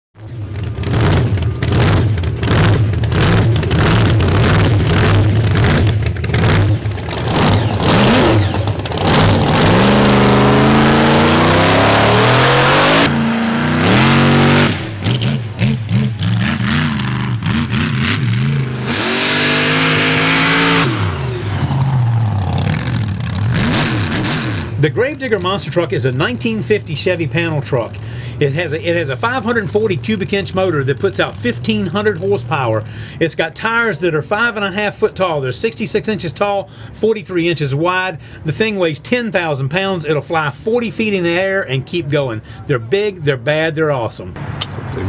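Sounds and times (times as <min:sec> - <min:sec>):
truck engine revving: 0:00.2 - 0:45.0.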